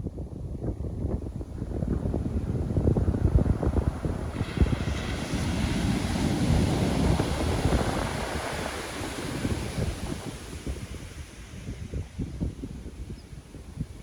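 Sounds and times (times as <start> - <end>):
wind buffeting microphone: 0.0 - 14.0
wave breaking on shore: 1.6 - 13.0.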